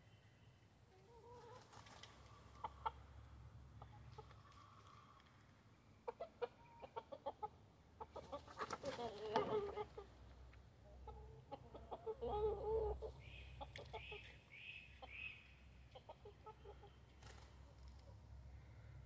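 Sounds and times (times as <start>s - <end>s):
chickens clucking: 0.9s - 18.4s.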